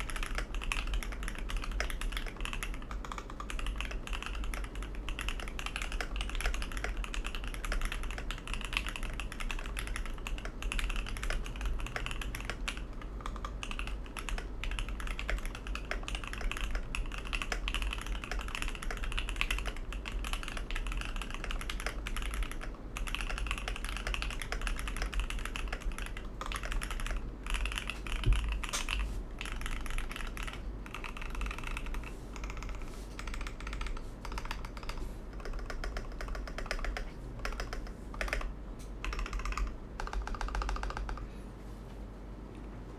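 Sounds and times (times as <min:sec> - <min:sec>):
mechanical keyboard typing: 0:00.0 - 0:41.3
steady low hum: 0:00.0 - 0:42.9.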